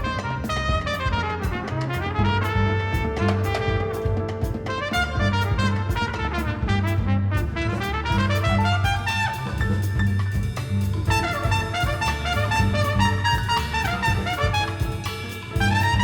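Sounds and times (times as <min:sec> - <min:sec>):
trumpet and trombone lines: 0:00.0 - 0:10.3, 0:11.0 - 0:16.0.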